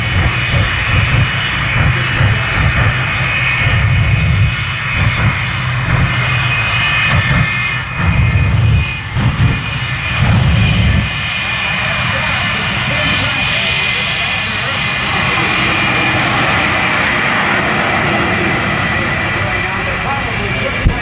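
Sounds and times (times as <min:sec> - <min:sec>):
jet engines roaring: 0:00.0 - 0:21.0
thin whine: 0:00.0 - 0:21.0.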